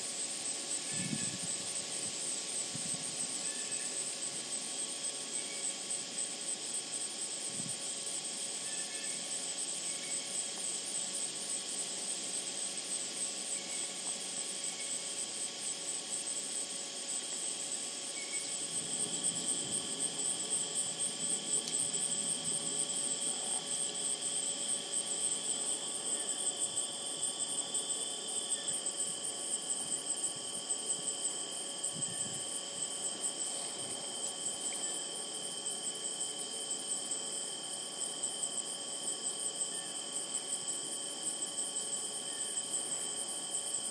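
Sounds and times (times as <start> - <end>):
high pulsing insect trill: 0.0 - 43.9
lower insect trills: 0.0 - 43.9.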